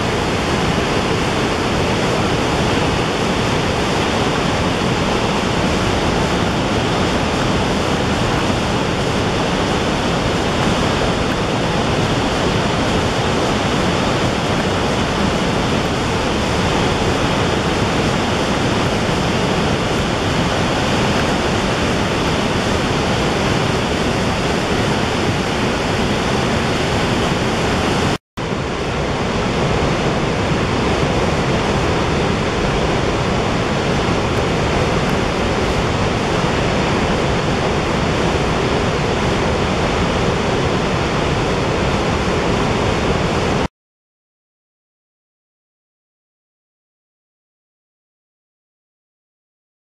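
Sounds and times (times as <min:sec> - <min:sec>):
waterfall rushing: 0:00.0 - 0:43.7.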